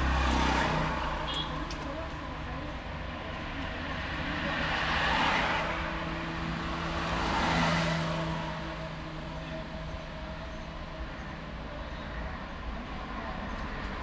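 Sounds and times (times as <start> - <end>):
tyre and road noise: 0.0 - 14.0.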